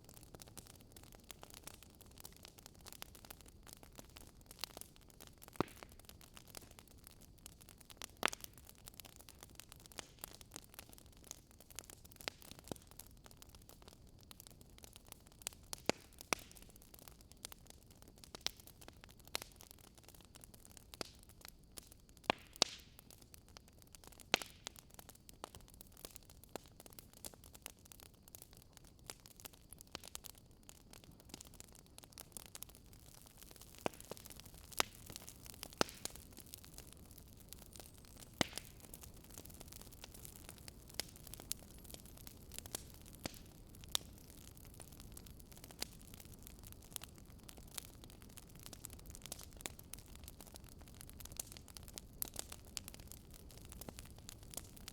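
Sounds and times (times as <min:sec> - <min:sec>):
burning logs popping: 0:00.0 - 0:54.9
wood fire crackling: 0:00.0 - 0:54.9.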